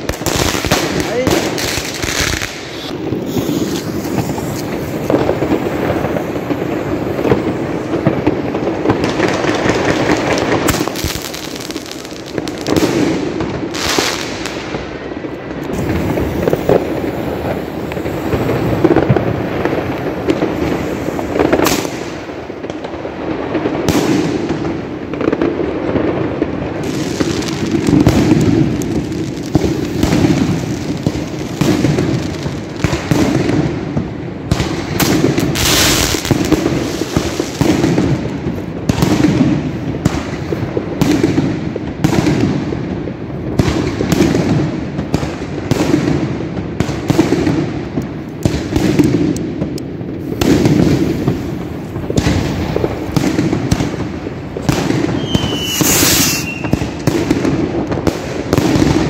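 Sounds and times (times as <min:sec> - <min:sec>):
fireworks crackling: 0:00.0 - 0:59.0
loud firework reports: 0:00.0 - 0:59.0.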